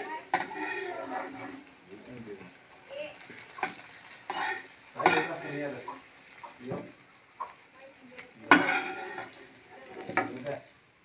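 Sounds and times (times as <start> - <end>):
spatula scraping frying pan: 0.0 - 2.6, 3.2 - 7.6, 8.2 - 10.7
oil sizzling: 0.0 - 11.0.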